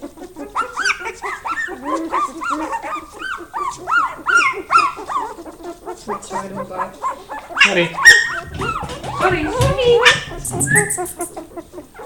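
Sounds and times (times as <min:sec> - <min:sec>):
puppies squealing and yipping: 0:00.0 - 0:12.0.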